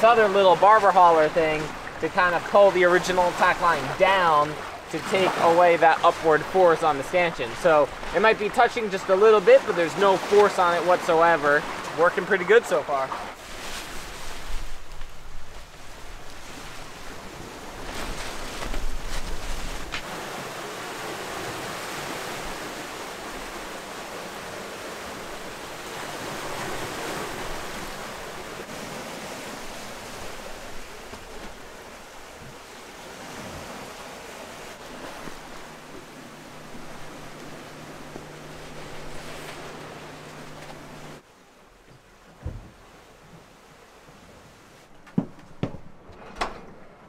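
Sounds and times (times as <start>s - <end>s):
water rushing along a hull: 0.0s - 47.0s.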